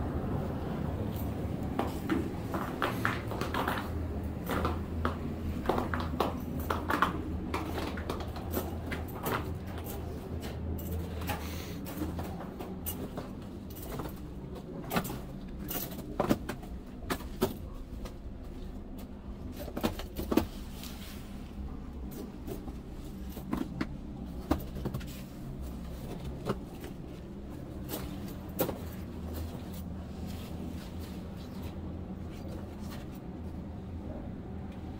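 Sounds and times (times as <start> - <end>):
steady low rumble: 0.0 - 34.9.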